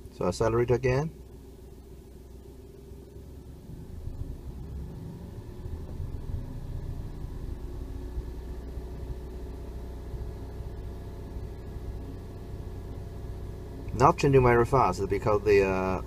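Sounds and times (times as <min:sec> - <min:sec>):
car engine revving: 0:02.9 - 0:16.0.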